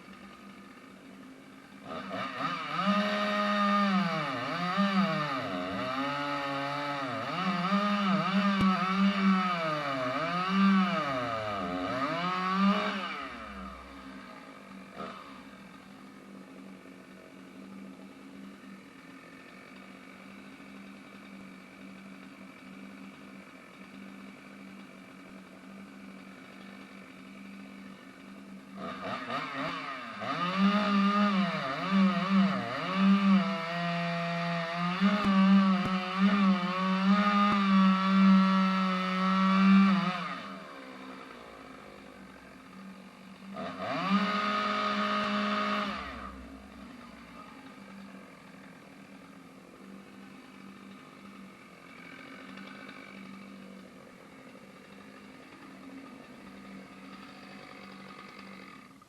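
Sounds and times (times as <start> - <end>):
engine saw cutting wood: 0.0 - 59.0.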